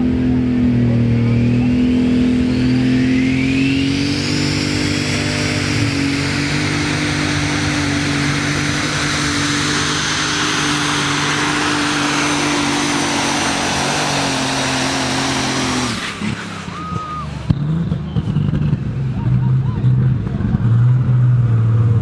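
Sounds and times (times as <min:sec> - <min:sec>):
diesel engine at high revs: 0:00.0 - 0:22.0.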